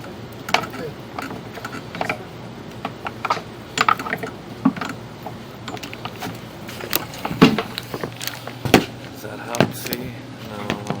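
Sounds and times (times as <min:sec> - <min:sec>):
equipment clicks and knocks: 0:00.0 - 0:10.1
steady low hum: 0:00.0 - 0:11.0.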